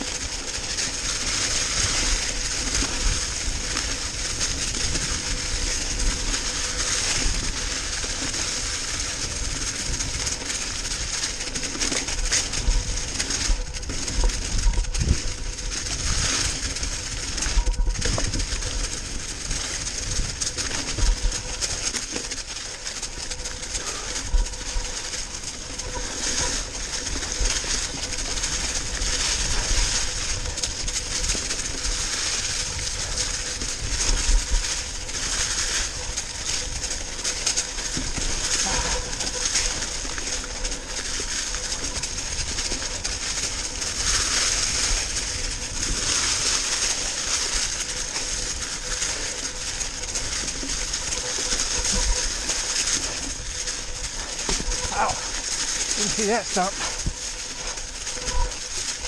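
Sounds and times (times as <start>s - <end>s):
bike tyres rustling over dry leaves: 0.0s - 59.0s.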